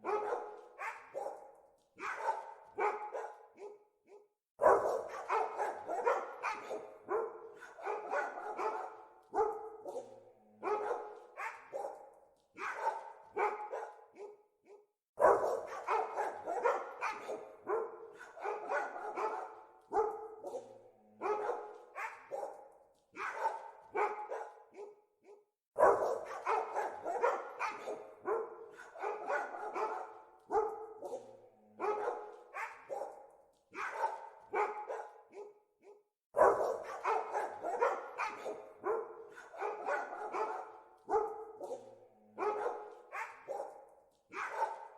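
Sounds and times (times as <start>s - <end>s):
dogs barking: 0.0s - 44.9s.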